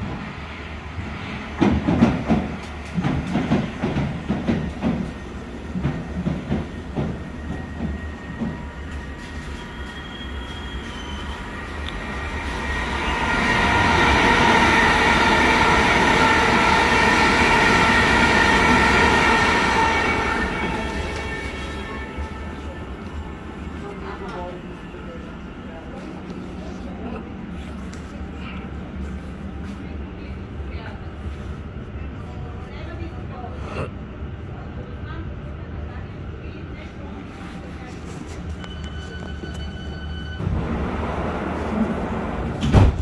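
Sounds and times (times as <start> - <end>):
multi-tone train whine: 0.0 - 43.0.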